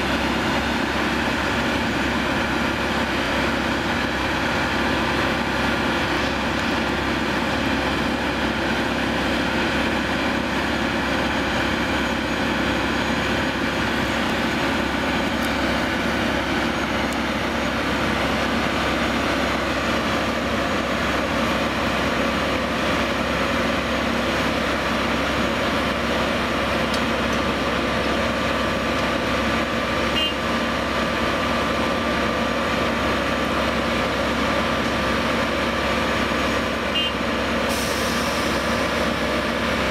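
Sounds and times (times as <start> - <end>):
diesel machine humming and whining: 0.0 - 39.9.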